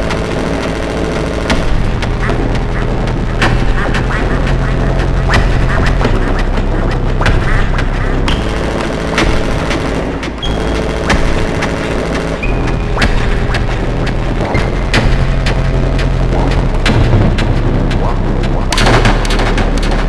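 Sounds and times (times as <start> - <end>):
distorted electronic noise music: 0.0 - 20.0
high electronic blips: 0.0 - 20.0
low bass drones: 0.0 - 20.0
sharp noisy hits: 0.0 - 20.0.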